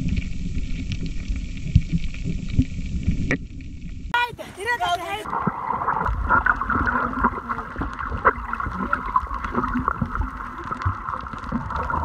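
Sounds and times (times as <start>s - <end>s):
low underwater rumble: 0.0s - 4.2s, 5.2s - 12.0s
underwater bubbling and churning: 0.0s - 4.2s, 5.2s - 12.0s.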